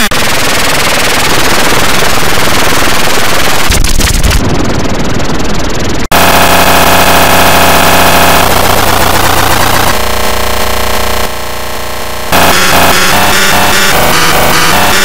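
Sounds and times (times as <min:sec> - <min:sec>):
distorted cartoon audio: 0:00.0 - 0:05.2, 0:06.1 - 0:15.0.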